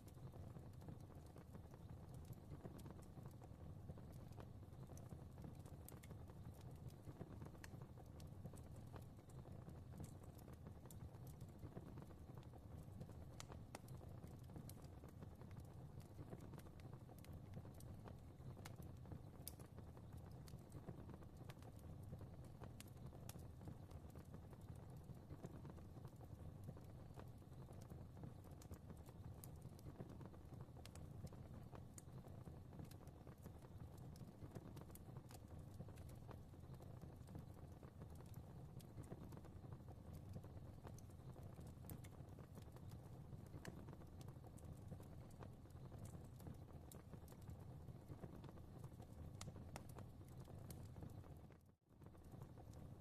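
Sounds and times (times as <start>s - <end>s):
faint rumble of flames: 0.0s - 53.0s
fireplace pops and crackles: 0.1s - 53.0s.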